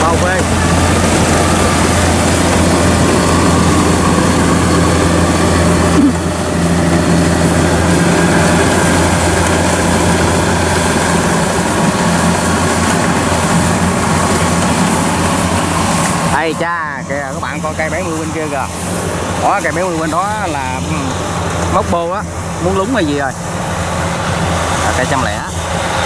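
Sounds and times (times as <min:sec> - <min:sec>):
combine harvester engine droning: 0:00.0 - 0:26.0.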